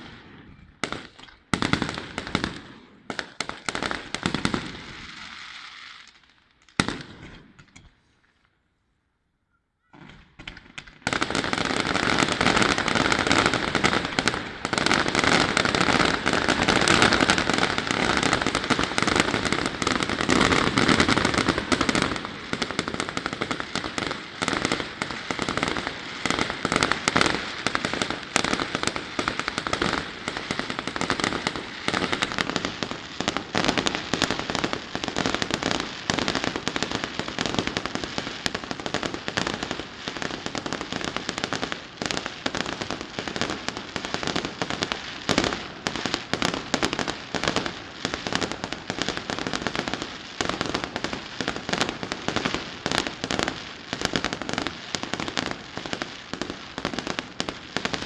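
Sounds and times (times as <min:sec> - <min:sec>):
rapid crackling firework bangs: 0:00.0 - 0:06.2, 0:06.8 - 0:07.6, 0:10.0 - 0:58.0.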